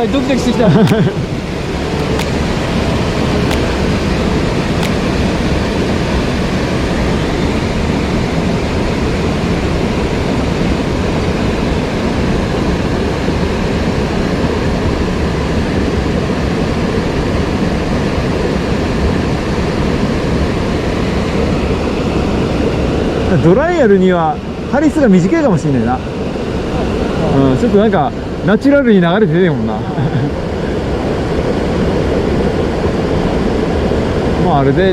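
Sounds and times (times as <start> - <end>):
rushing stream water: 0.0 - 28.4.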